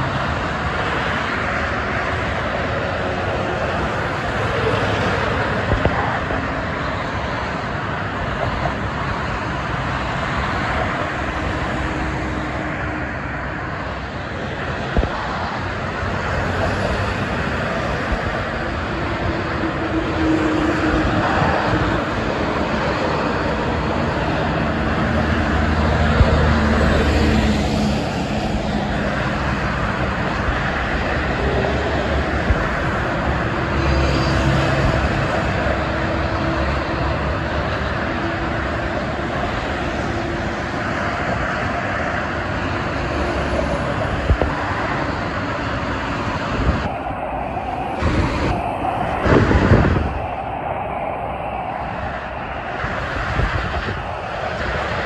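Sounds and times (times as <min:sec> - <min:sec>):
expressway traffic: 0:00.0 - 0:55.0.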